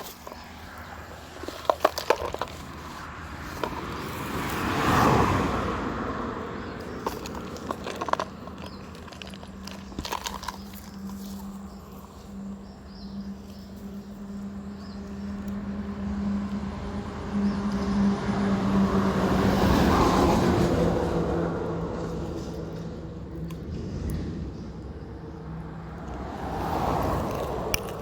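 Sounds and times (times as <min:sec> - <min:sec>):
vehicle engine passing: 0:00.0 - 0:28.0.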